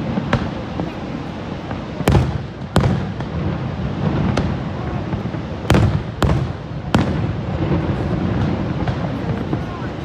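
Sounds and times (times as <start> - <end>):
firework shells bursting: 1.6 - 9.7.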